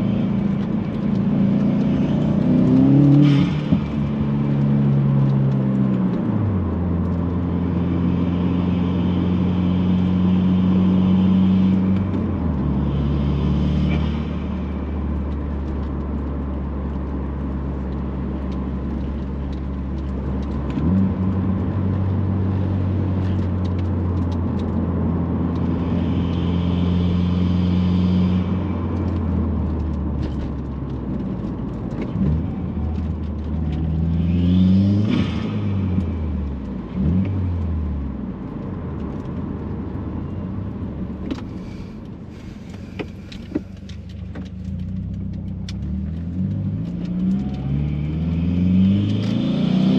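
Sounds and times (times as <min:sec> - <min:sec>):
car engine revving: 0:00.0 - 0:40.1, 0:40.7 - 0:49.9.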